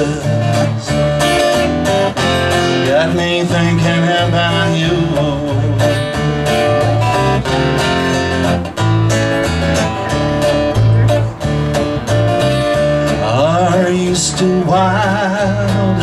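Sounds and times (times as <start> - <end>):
acoustic guitar strummed: 0.0 - 16.0
walking electric bass line: 0.0 - 16.0.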